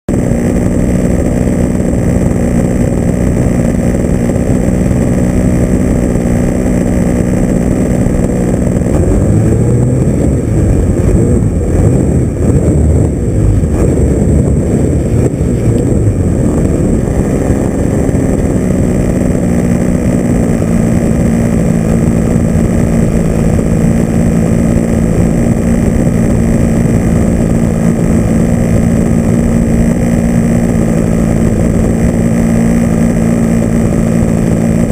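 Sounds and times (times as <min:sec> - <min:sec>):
rushing air: 0:00.1 - 0:34.9.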